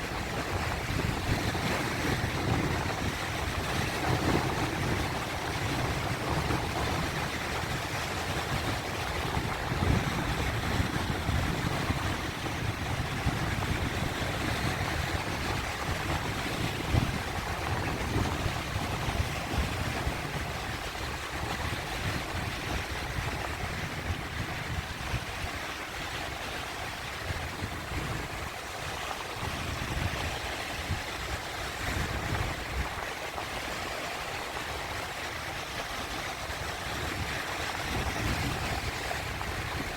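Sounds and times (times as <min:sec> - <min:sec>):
sea waves washing: 0:00.0 - 0:39.9.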